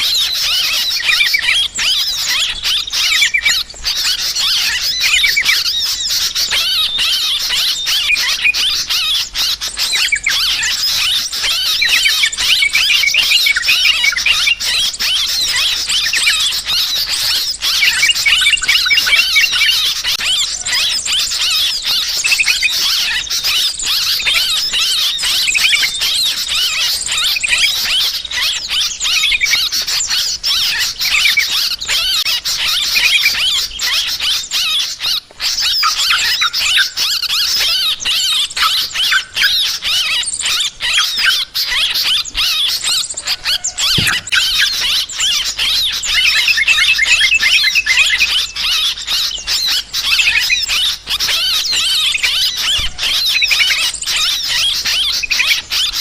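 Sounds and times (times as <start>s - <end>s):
birds chattering and chirping: 0.0s - 56.0s.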